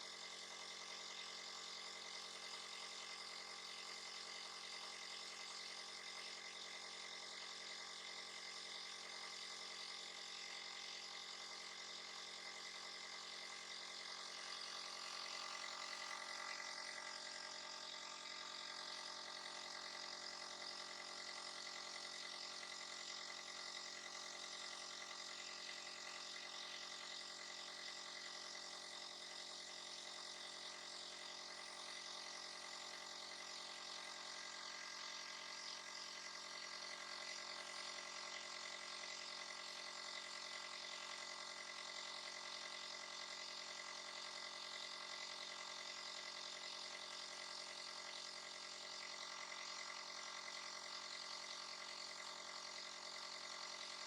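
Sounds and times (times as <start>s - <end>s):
small motor humming: 0.0s - 54.0s.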